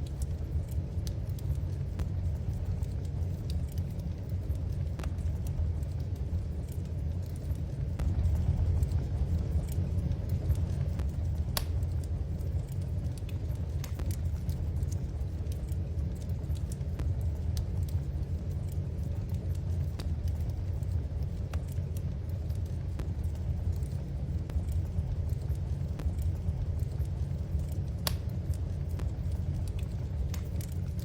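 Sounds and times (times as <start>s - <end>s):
low rumble of fire: 0.0s - 31.0s
wood fire crackling: 0.0s - 31.0s.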